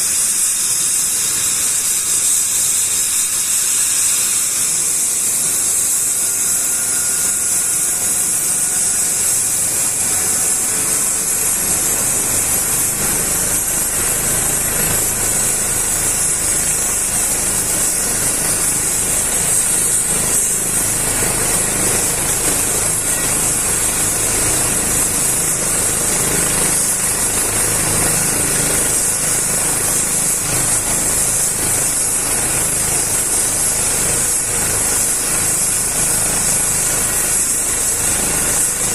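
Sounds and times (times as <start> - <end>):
helicopter rotor noise: 0.0 - 38.9
helicopter turbine whine: 0.0 - 38.9.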